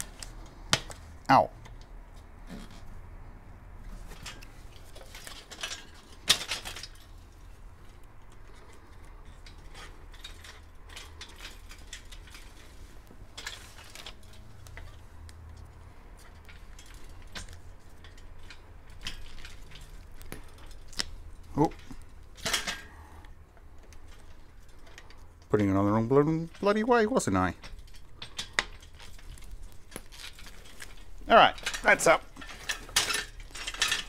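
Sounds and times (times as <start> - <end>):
workbench parts clicking and clanking: 0.0 - 3.2, 3.8 - 34.0.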